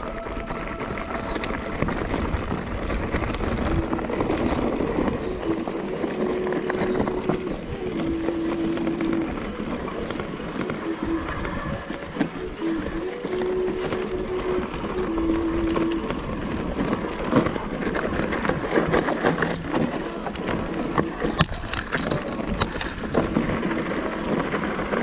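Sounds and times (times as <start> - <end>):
electric bike motor whining: 0.0 - 25.0
tyres crunching on stony track: 0.0 - 25.0.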